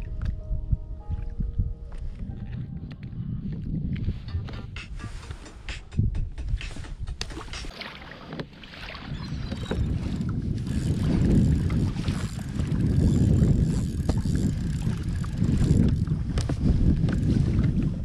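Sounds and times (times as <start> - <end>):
wind buffeting microphone: 0.0 - 7.7, 8.9 - 18.0.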